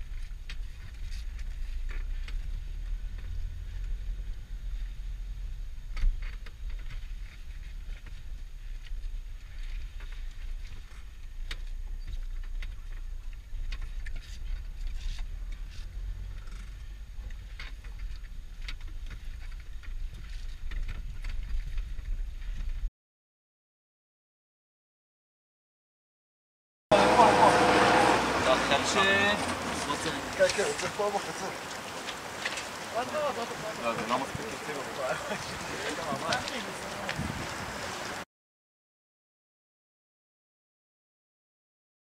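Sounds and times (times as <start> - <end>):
vehicle rumble on rough track: 0.0 - 22.9, 26.9 - 38.2.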